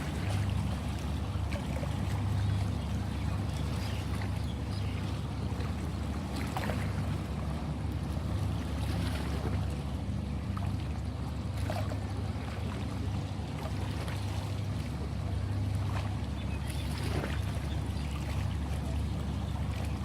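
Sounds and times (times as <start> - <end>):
sea water sloshing: 0.0 - 20.0
small water splashes: 0.0 - 20.0.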